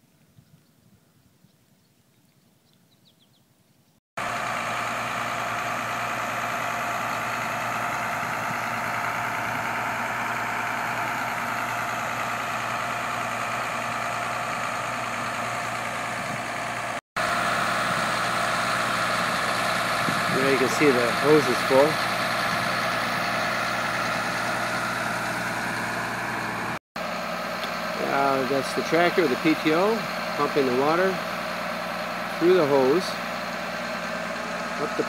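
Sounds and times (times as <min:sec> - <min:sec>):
tractor engine running: 0:04.2 - 0:35.0.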